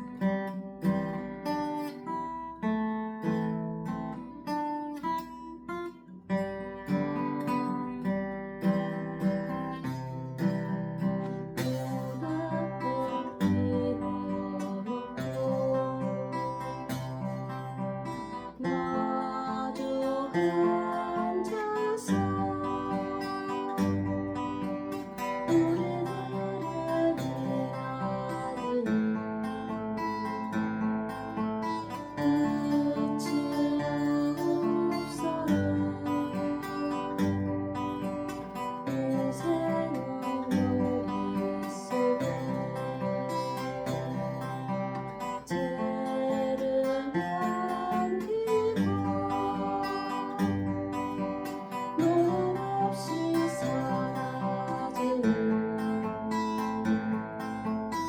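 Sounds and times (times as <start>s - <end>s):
acoustic guitar strumming chords: 0.0s - 58.0s.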